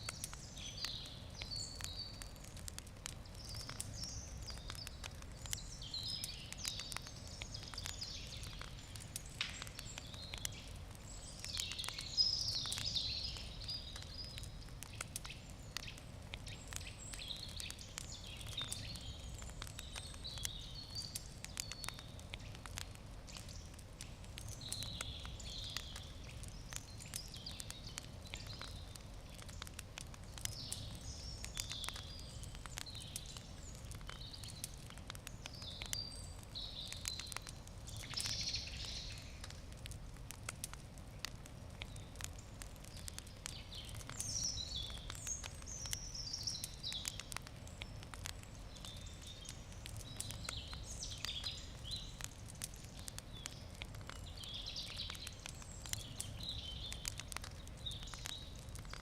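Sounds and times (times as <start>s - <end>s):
campfire crackling and popping: 0.0s - 59.0s
birds chirping: 0.1s - 39.5s, 41.8s - 59.0s.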